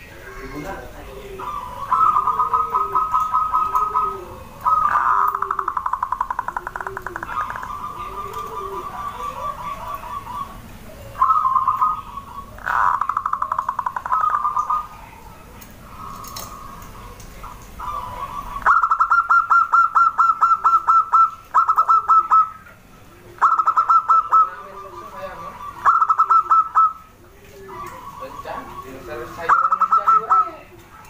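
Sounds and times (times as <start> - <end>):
dove staccato cooing: 0.0 - 31.0.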